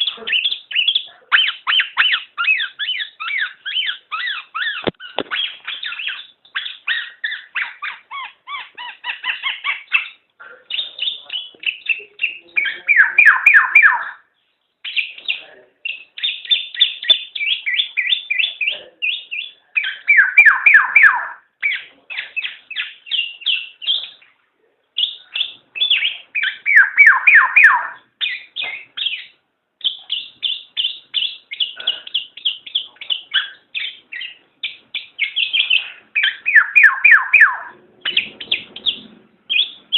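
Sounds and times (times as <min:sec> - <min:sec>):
bird chattering calls: 0:00.0 - 0:14.3, 0:14.9 - 0:24.3, 0:25.0 - 0:39.9.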